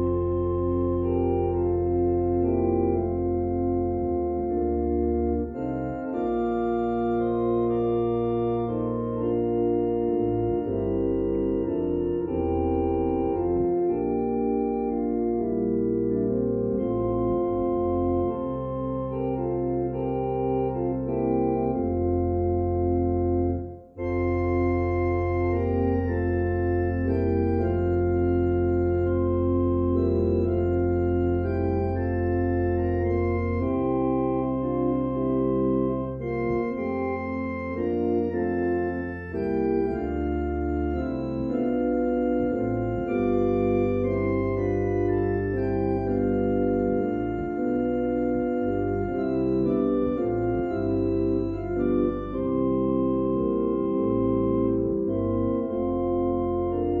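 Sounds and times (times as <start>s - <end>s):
organ playing slow chords: 0.0s - 57.0s.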